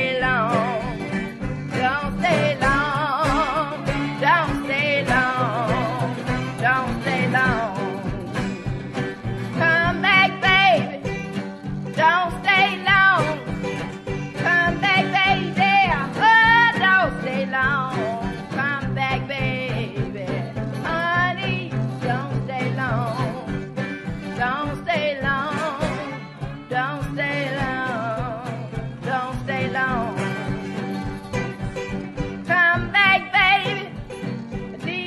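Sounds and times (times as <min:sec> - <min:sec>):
upbeat country music: 0:00.0 - 0:35.0.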